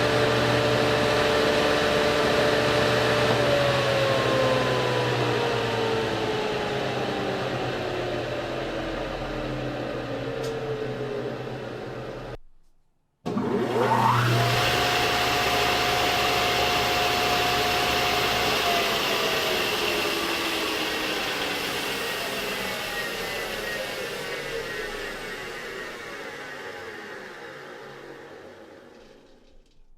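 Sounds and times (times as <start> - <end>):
woodworking machine motor running: 0.0 - 12.4, 13.3 - 29.8.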